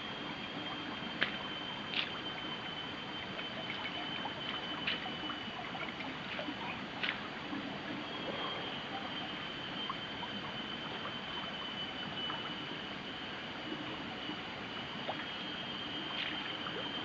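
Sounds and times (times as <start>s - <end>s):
shallow stream trickling: 0.1s - 17.0s.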